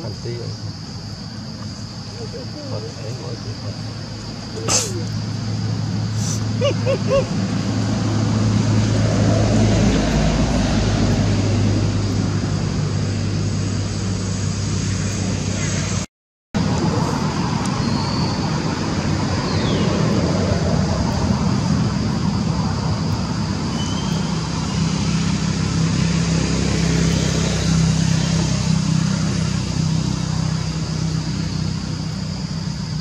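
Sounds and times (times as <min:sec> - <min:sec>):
vehicle engine running: 0:00.0 - 0:16.0, 0:16.6 - 0:33.0.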